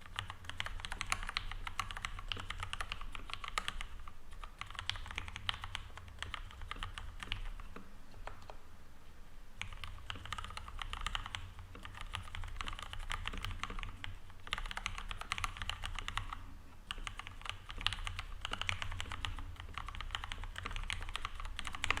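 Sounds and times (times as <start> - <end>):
mechanical keyboard typing: 0.0 - 8.6, 9.6 - 22.0.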